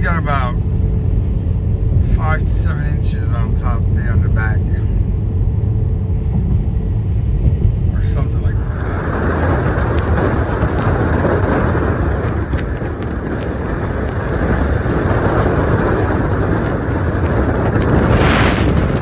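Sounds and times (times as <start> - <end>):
car road noise: 0.0 - 19.0.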